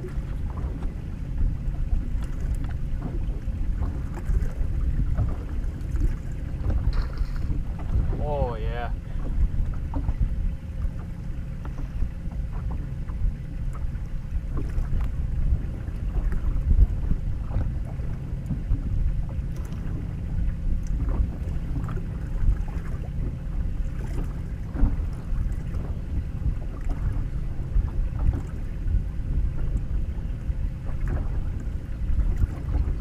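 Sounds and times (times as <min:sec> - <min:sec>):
water lapping against boat hull: 0:00.0 - 0:33.0
wind buffeting microphone: 0:00.0 - 0:33.0.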